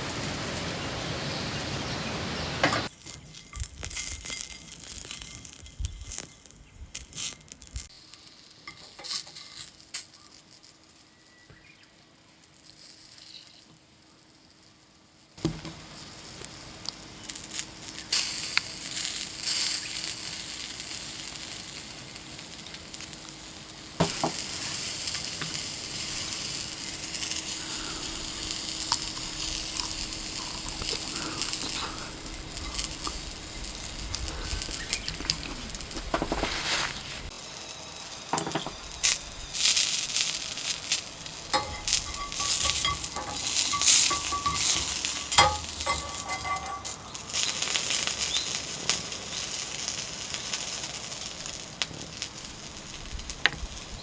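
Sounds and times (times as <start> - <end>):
food sizzling: 0.0 - 54.0
small ticks and crackles: 2.8 - 54.0.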